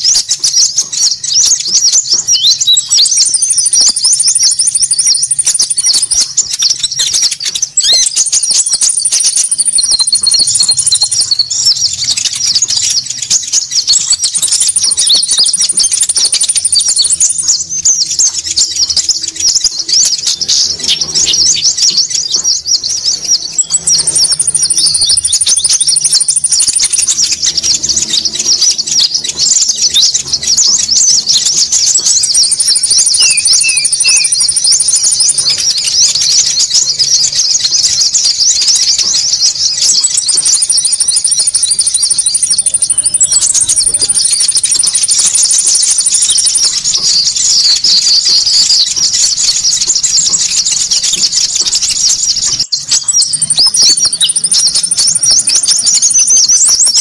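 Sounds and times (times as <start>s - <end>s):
small birds chattering: 0.0s - 57.0s
thin high-pitched bird trill: 0.0s - 57.0s.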